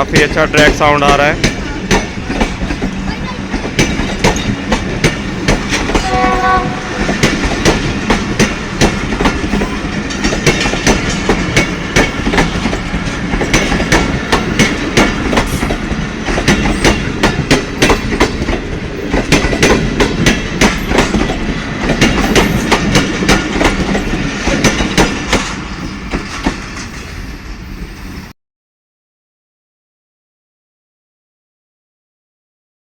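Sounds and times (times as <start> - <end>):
train wheels clicking over rail joints: 0.0 - 28.0.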